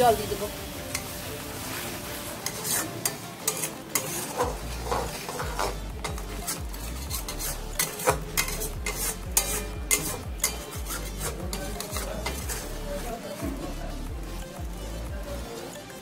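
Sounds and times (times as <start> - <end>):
spice paste sizzling: 0.0 - 16.0
metal spatula scraping pan: 0.9 - 13.8.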